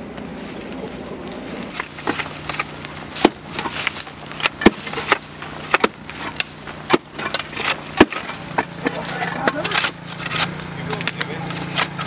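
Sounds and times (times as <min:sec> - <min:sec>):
brushwood crackling: 0:00.0 - 0:12.0
steady low hum: 0:00.0 - 0:12.0
tools chopping through brambles: 0:01.6 - 0:12.0.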